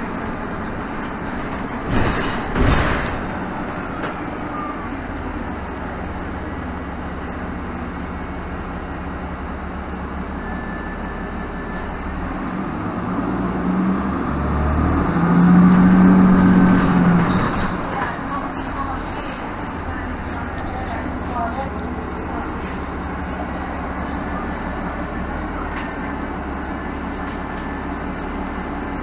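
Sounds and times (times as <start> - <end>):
bus engine drone: 0.0 - 29.0
road rumble: 0.0 - 29.0.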